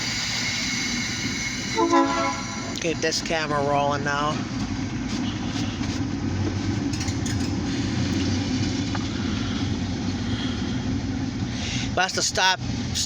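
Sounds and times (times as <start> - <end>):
diesel locomotive engine idling: 0.0 - 13.0.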